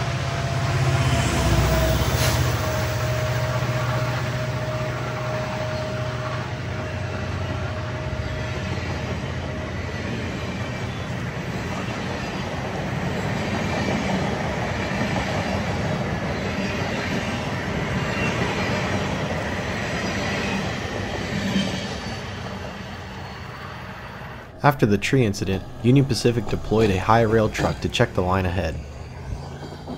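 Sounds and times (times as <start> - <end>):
train rumbling past on rails: 0.0 - 29.9.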